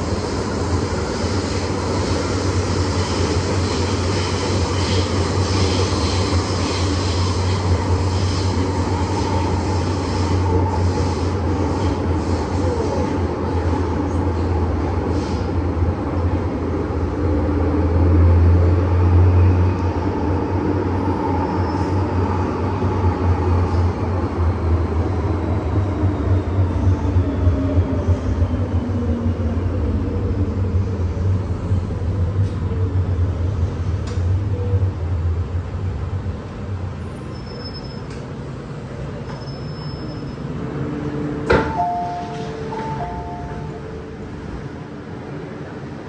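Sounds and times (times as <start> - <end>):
metro train rumbling: 0.0 - 46.0.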